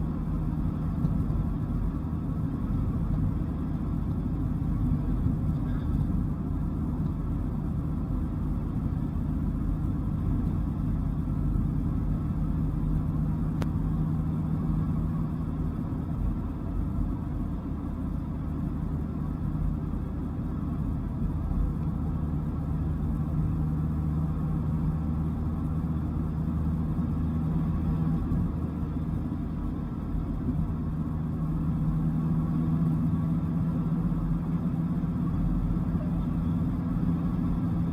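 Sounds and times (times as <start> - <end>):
car engine and tyre drone: 0.0 - 37.9.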